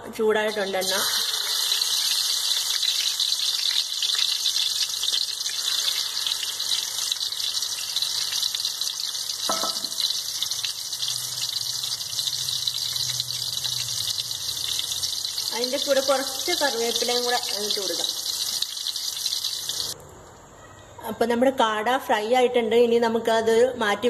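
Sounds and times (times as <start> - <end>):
meat sizzling in oil: 0.5 - 20.0.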